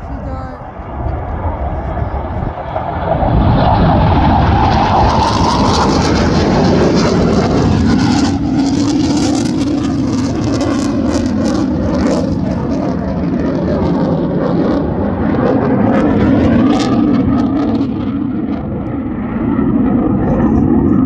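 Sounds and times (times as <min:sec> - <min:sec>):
jet engines roaring past: 0:00.0 - 0:21.0.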